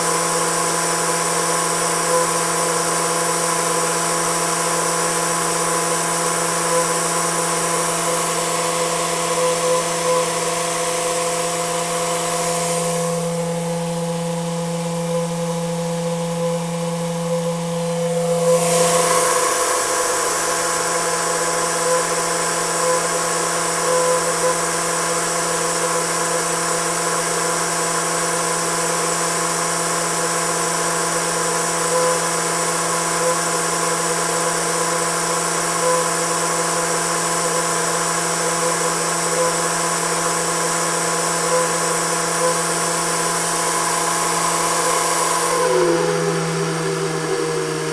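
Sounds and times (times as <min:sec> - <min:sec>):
turbine humming with high tones: 0:00.0 - 0:47.9.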